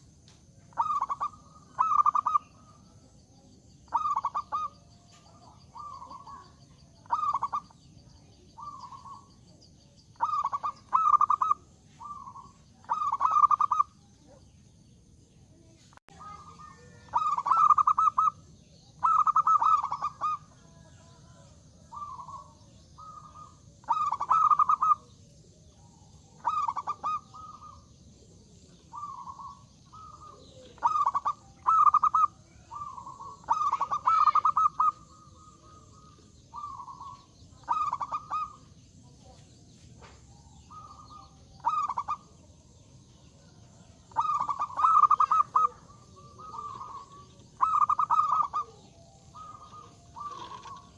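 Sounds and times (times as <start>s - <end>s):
dove cooing: 0.7s - 14.4s, 16.2s - 39.4s, 40.0s - 50.9s.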